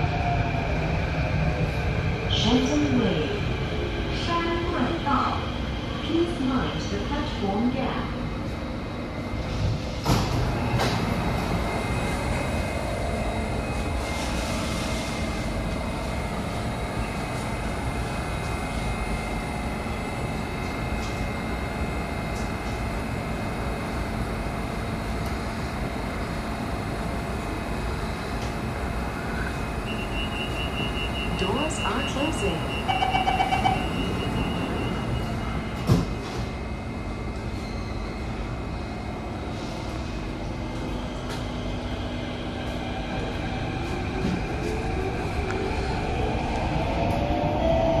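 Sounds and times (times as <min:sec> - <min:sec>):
metro train interior hum: 0:00.0 - 0:48.0.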